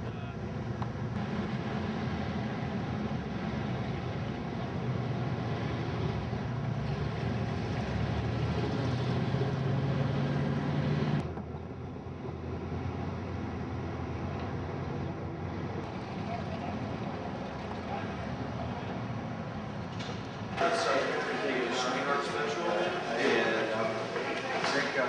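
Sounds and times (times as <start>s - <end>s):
car engines humming: 0.0s - 25.0s.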